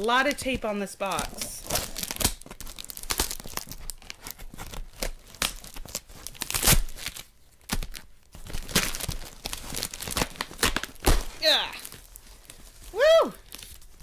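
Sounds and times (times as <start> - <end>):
packaging crinkling: 0.0 - 14.0.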